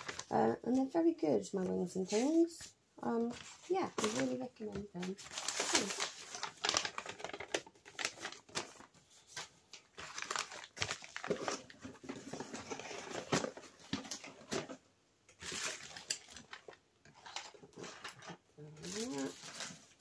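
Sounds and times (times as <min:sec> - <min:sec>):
paper and plastic rustling: 0:00.0 - 0:20.0.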